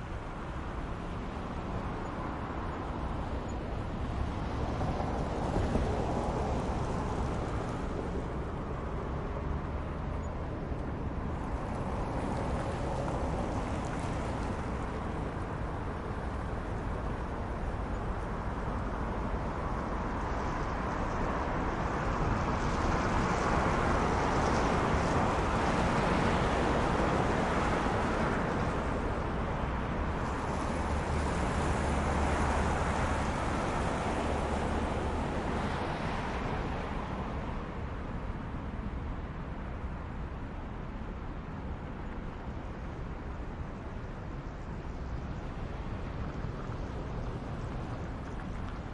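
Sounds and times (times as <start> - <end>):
distant road traffic hum: 0.0 - 48.9
vehicles passing: 0.0 - 48.9.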